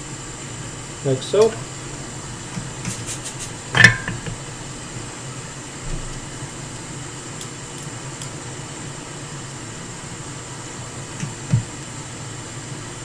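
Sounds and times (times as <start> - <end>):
fan whirring: 0.0 - 13.0.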